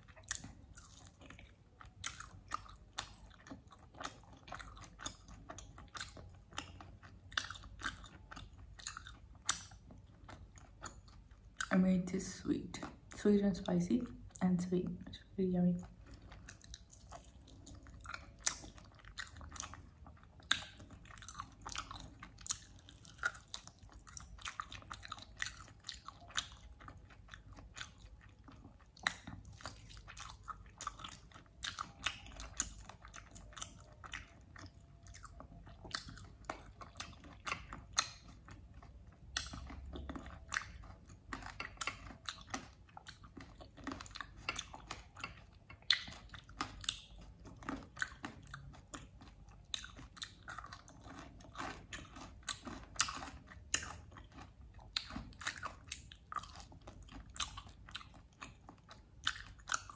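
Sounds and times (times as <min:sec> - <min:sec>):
person biting and chewing meat: 0:00.0 - 0:11.7, 0:16.0 - 0:59.9.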